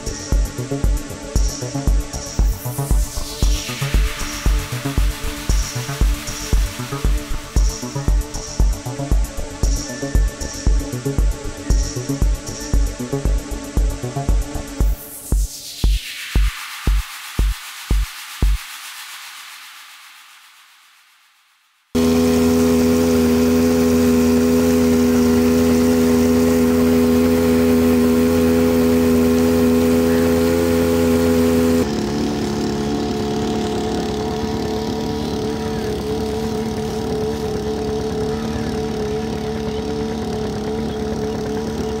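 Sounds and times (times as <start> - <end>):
small petrol engine humming: 0.0 - 14.9, 22.0 - 42.0.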